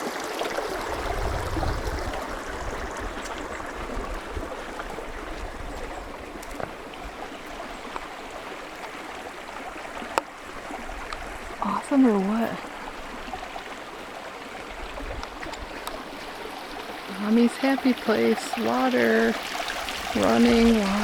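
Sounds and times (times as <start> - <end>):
creek water babbling: 0.0 - 21.0.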